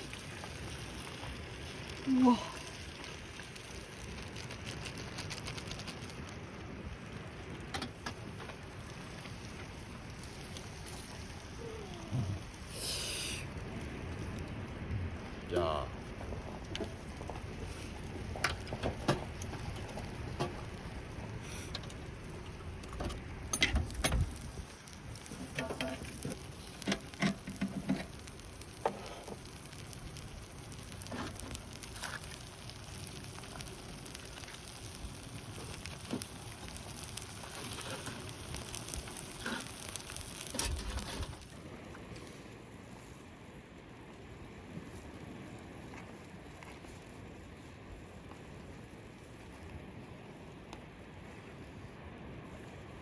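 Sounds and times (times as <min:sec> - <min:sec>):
clams sizzling on a grill: 0:00.0 - 0:50.8.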